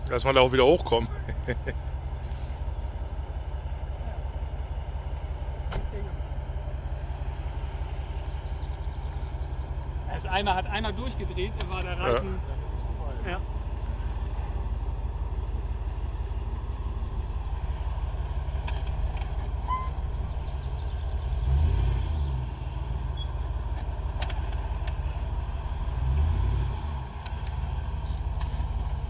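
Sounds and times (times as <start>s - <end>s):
vehicle engine running at low revs: 0.0s - 29.0s.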